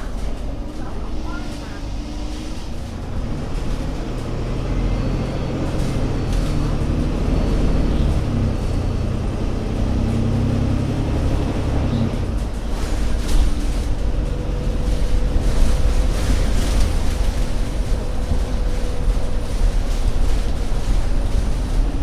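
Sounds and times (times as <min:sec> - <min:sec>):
bus diesel engine under load: 0:00.0 - 0:22.0.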